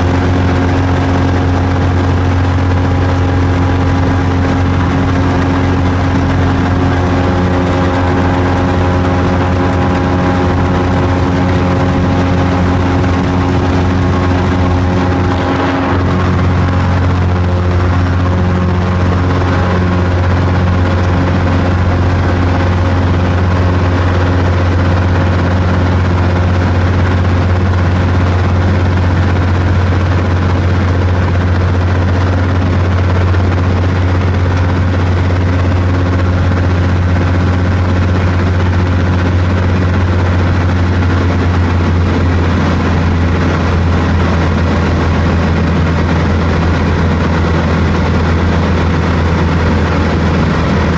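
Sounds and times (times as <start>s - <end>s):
airplane engine drone in cabin: 0.0s - 50.9s.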